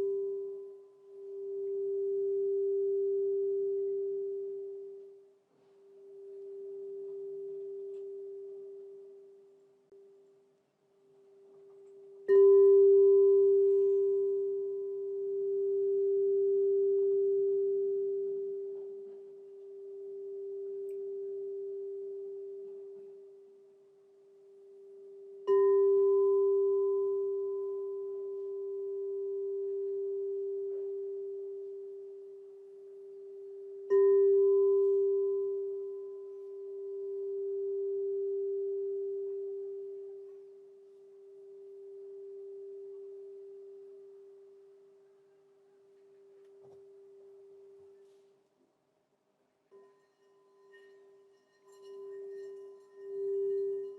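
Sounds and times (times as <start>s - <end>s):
crystal singing bowl ringing: 0.0s - 5.3s, 6.0s - 9.5s, 11.5s - 45.1s, 49.7s - 53.9s.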